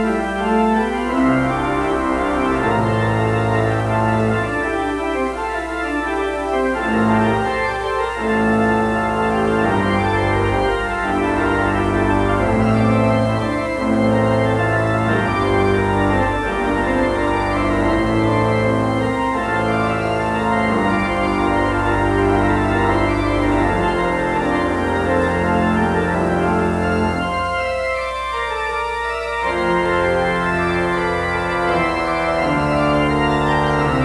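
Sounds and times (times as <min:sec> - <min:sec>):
church organ playing chords: 0:00.0 - 0:34.0.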